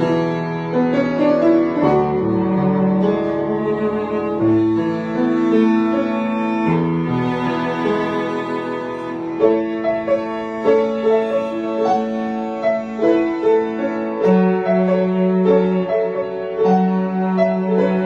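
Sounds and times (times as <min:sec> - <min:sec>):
piano playing broken chords: 0:00.0 - 0:18.0.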